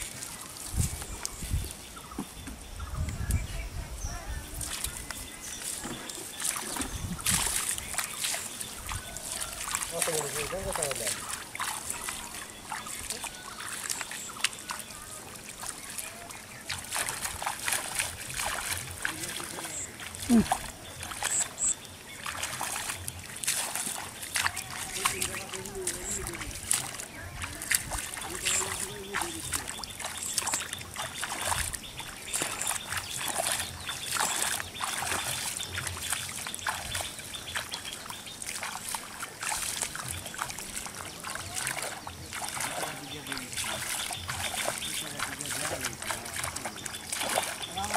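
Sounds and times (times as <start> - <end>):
bare feet splashing through water: 0.0 - 47.9.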